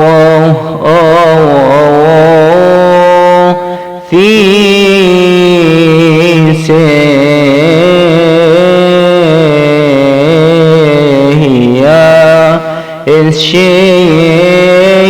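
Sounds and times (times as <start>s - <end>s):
man chanting a hymn: 0.0s - 15.0s.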